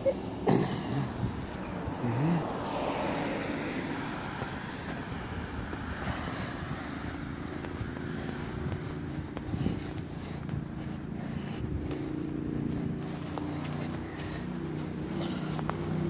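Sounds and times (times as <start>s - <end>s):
distant vehicle passing: 0.0s - 16.0s.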